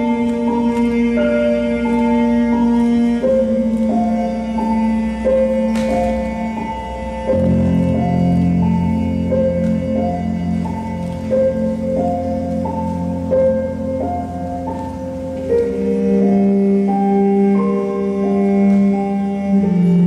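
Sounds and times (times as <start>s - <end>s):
low drone: 0.0s - 20.0s
slow instrumental melody: 0.0s - 20.0s.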